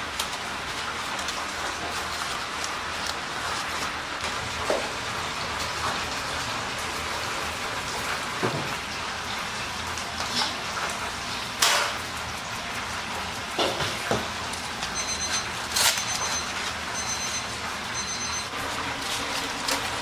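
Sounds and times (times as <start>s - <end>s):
food sizzling in hot oil: 4.0s - 20.0s.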